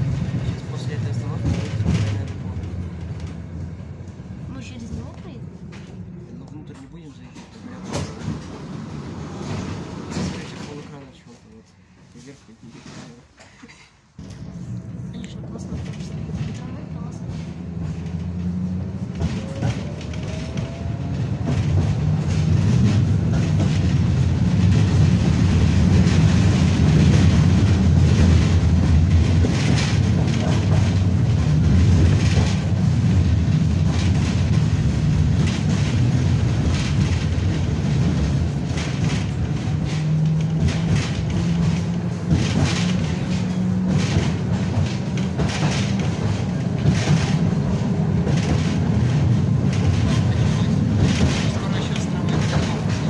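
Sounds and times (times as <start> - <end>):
wheel clacks over rail joints: 0.0 - 3.6, 6.7 - 11.0, 15.6 - 53.0
tram low rumble: 0.0 - 53.0.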